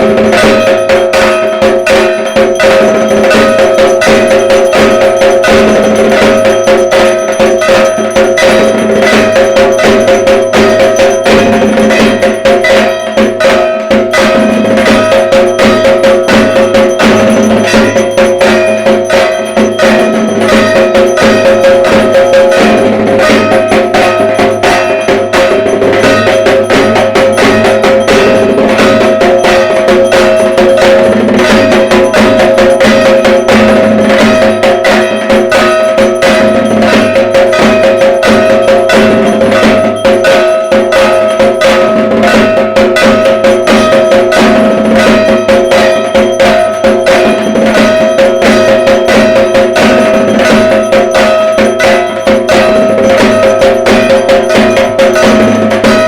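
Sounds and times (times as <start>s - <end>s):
barrel drum beaten fast: 0.0s - 56.0s
steady metallic ringing: 0.0s - 56.0s.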